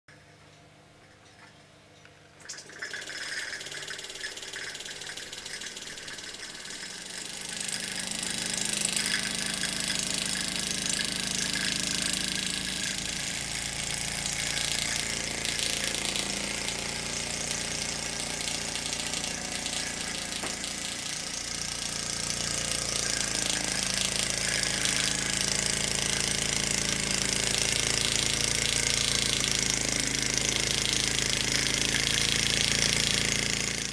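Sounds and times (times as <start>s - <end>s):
small steam engine running: 2.6s - 33.9s
steam hissing: 3.1s - 33.8s.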